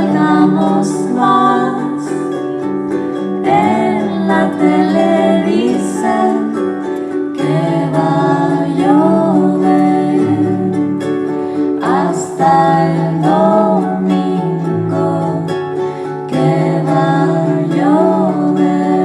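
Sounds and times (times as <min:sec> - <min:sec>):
woman singing: 0:00.0 - 0:02.7, 0:03.4 - 0:19.0
plucked string accompaniment: 0:00.0 - 0:19.0.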